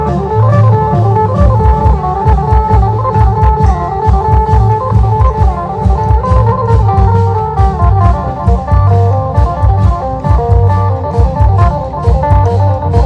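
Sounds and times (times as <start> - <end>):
fast drumbeat: 0.0 - 13.0
lively melody line: 0.0 - 13.0.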